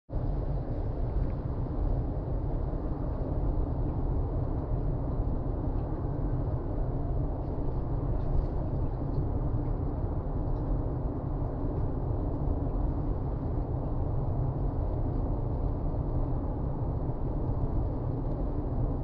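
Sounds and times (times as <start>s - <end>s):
road and engine noise in car cabin: 0.2s - 19.0s.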